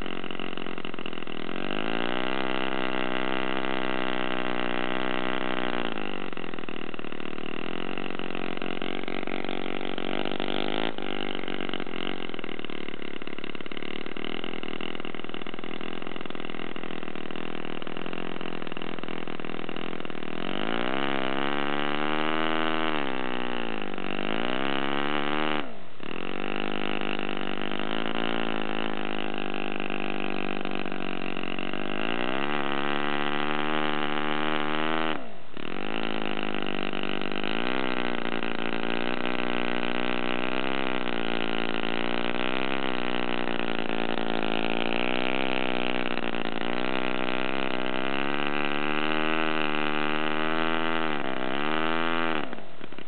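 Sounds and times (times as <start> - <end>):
model engine revving: 0.0 - 53.0.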